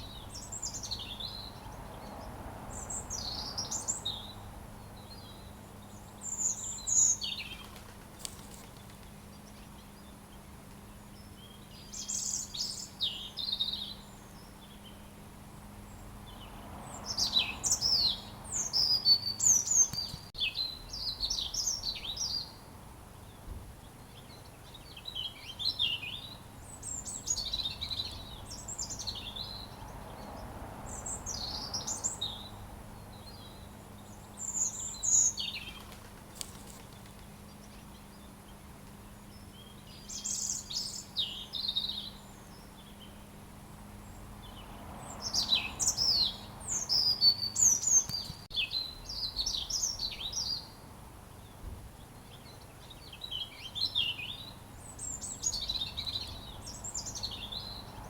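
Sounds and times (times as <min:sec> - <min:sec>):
robin singing: 0:00.0 - 0:07.8, 0:08.5 - 0:58.0.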